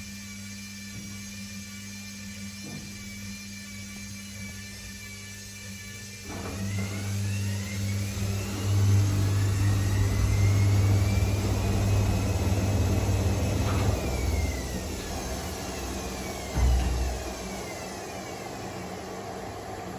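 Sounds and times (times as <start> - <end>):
washing machine motor humming and whining: 0.0 - 19.9.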